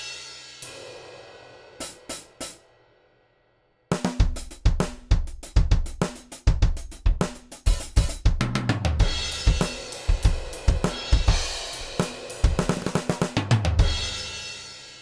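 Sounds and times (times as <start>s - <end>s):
drum kit beat: 0.0s - 1.1s, 1.7s - 2.6s, 3.9s - 15.0s.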